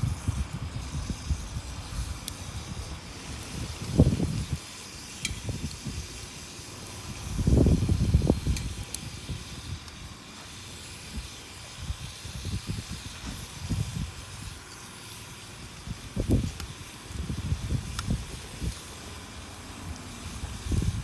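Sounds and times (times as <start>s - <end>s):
campfire hissing and crackling: 0.0s - 21.0s.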